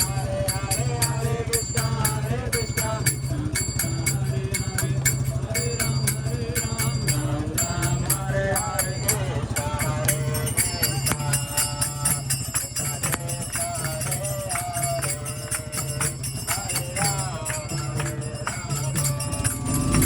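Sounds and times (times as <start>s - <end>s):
fast jingling percussion: 0.0s - 20.0s.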